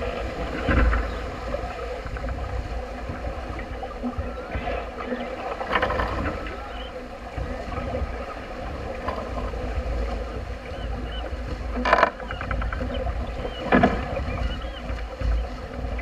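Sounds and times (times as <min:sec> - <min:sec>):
water rushing along hull: 0:00.0 - 0:16.0
water slaps on hull: 0:00.0 - 0:16.0
wind rumbling on microphone: 0:00.0 - 0:16.0.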